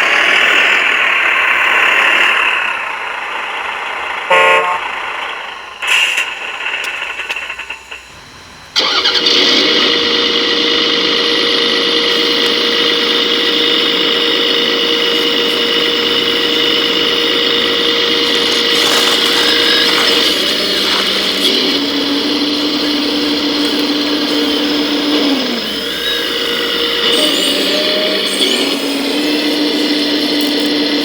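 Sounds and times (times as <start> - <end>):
rc machine running with whine: 0.0 - 31.0.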